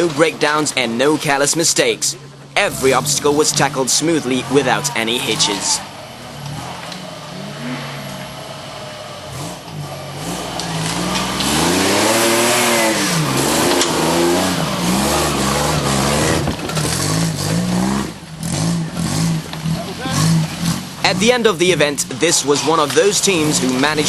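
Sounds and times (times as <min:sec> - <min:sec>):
vehicle engine revving hard: 0:02.6 - 0:24.0.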